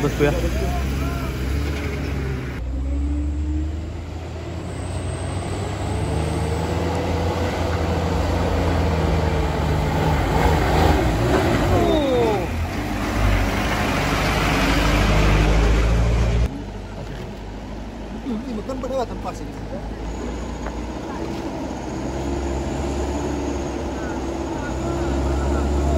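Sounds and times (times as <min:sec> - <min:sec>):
diesel truck engine pulling hard: 0:00.0 - 0:25.9.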